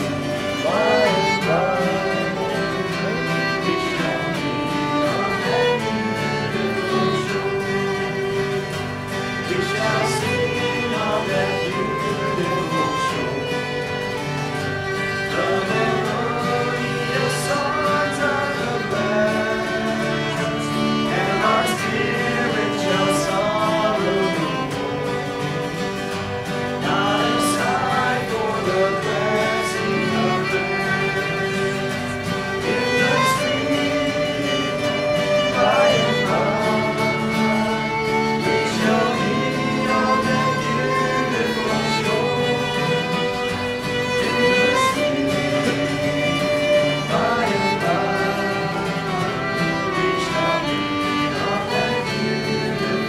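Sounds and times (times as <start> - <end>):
acoustic guitars strummed: 0.0 - 53.0
fiddle bowing: 0.0 - 53.0.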